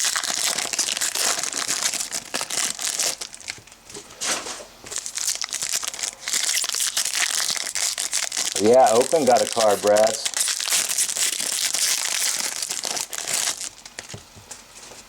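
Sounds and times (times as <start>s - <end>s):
wrappers crinkling and tearing: 0.0s - 3.8s, 4.9s - 14.2s.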